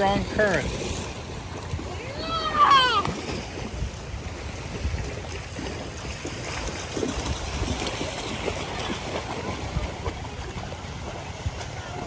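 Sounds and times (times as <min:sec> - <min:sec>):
people wading and splashing: 0:00.0 - 0:12.0
wind buffeting microphone: 0:00.0 - 0:12.0.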